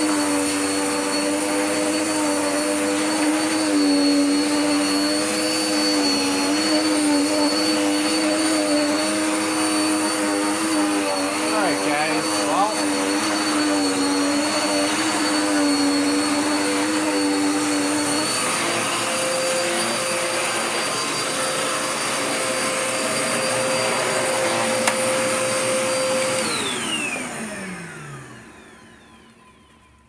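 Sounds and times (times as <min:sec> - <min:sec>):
vacuum cleaner running: 0:00.0 - 0:30.0
vacuum motor winding down: 0:00.0 - 0:30.0.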